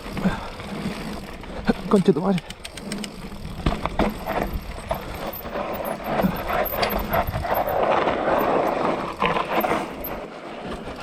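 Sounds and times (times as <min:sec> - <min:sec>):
bike clattering over bumps: 0:00.0 - 0:11.0
bike tyres grinding over dirt: 0:00.0 - 0:11.0.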